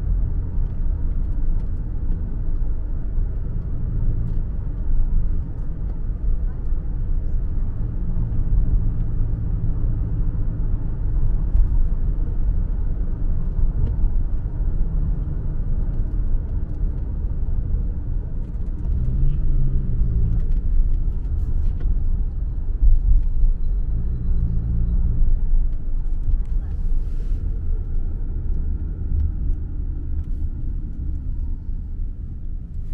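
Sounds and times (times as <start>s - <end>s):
tyres and engine rumble: 0.0s - 32.9s.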